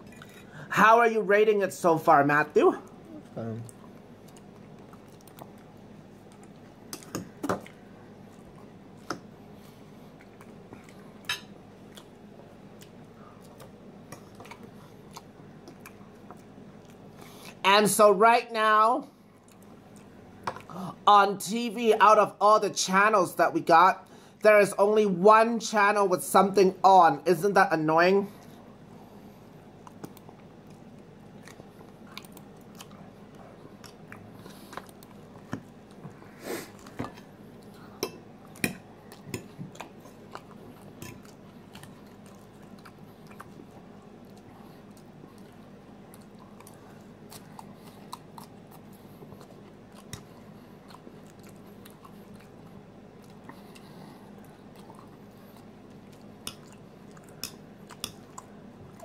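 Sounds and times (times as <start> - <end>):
chewing with small crunches: 0.0 - 0.6, 2.8 - 17.6, 19.1 - 21.0, 28.3 - 59.0.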